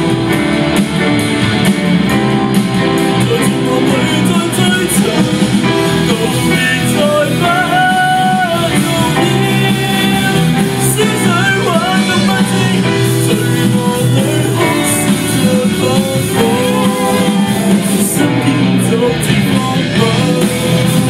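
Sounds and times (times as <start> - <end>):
rock band playing live: 0.0 - 21.0
person singing: 2.0 - 21.0.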